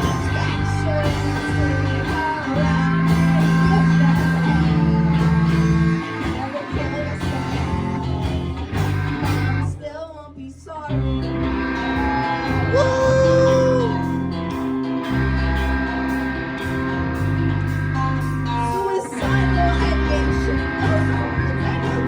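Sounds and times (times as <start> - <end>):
rock band playing live: 0.0 - 9.8, 10.9 - 22.0
person singing: 0.0 - 22.0.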